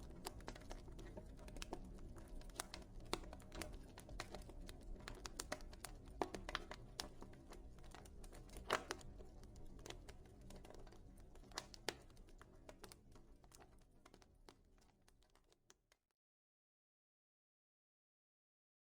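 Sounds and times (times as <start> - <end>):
fire crackling and popping: 0.0 - 15.8.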